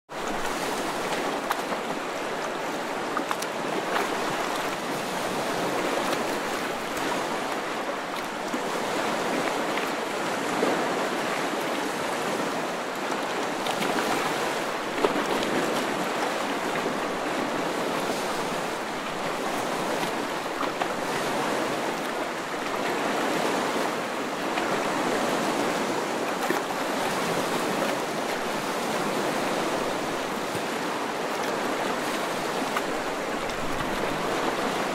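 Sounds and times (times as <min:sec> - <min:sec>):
water rushing: 0:00.1 - 0:34.9.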